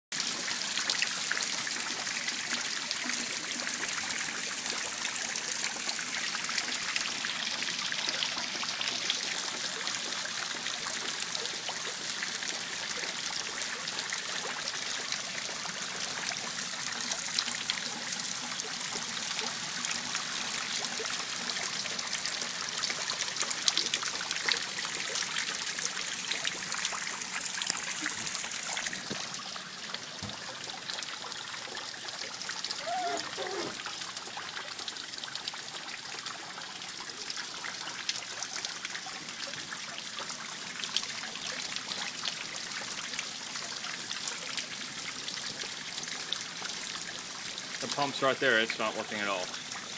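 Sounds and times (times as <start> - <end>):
water running and trickling: 0.1 - 49.9.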